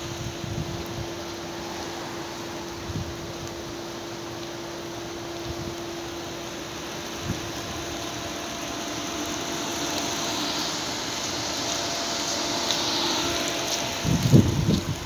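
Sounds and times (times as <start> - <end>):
air-conditioning units humming: 0.0 - 15.0.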